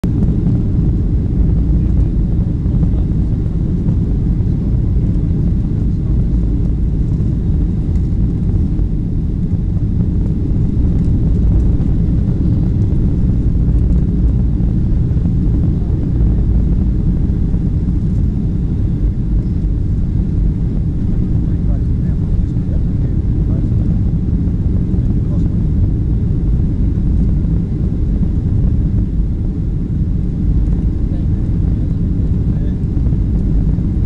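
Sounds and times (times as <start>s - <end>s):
airliner cabin engine rumble: 0.0s - 34.0s.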